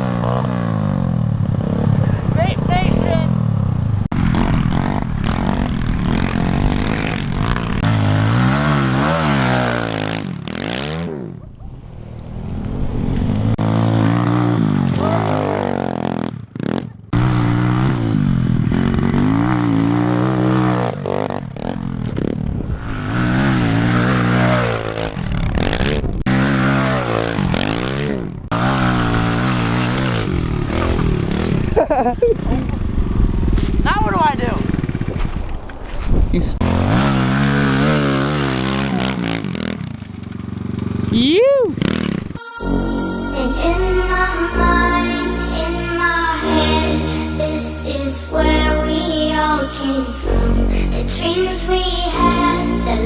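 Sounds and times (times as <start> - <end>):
pit bike engine revving: 0.0 - 35.4, 36.6 - 53.0.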